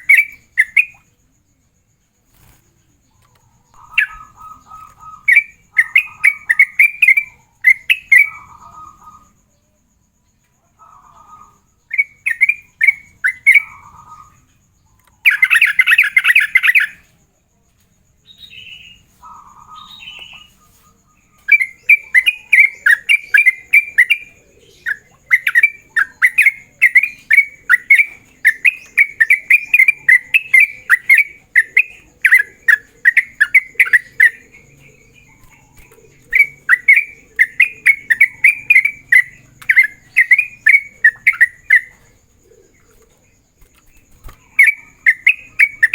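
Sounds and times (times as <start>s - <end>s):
bird singing chattering notes: 3.2s - 9.3s, 11.9s - 17.0s, 18.3s - 43.0s, 43.6s - 45.9s.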